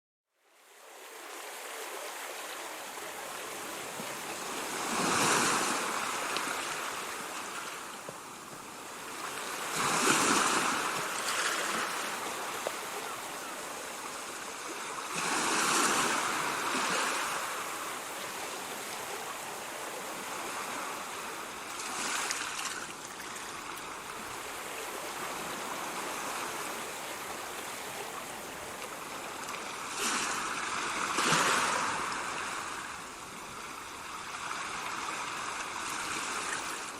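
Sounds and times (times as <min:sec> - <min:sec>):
ocean waves breaking: 0:00.6 - 0:36.9.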